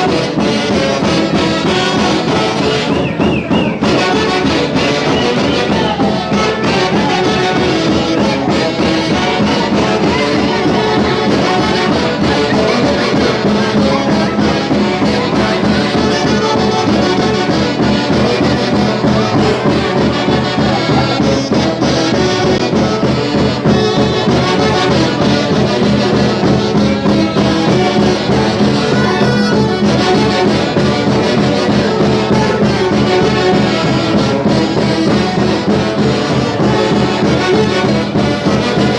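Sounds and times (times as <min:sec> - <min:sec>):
folk orchestra with brass horns: 0:00.0 - 0:38.9.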